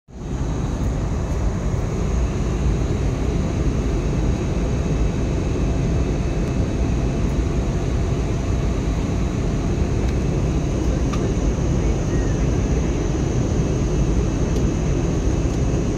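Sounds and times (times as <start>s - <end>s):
jet engine and airflow rumble: 0.1s - 15.9s
faint high whine: 0.2s - 15.9s.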